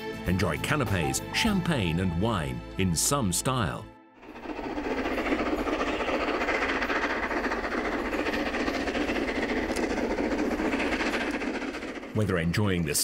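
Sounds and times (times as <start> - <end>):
steam train running on rails: 0.0 - 13.0.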